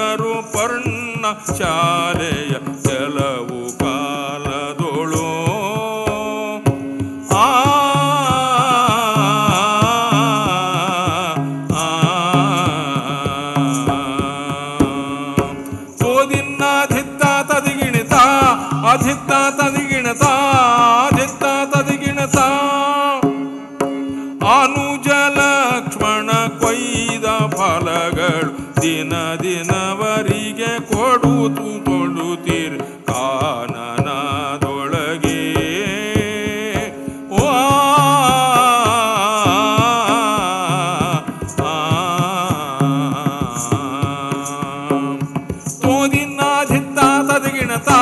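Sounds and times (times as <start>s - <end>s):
hand drum strokes: 0.0s - 48.0s.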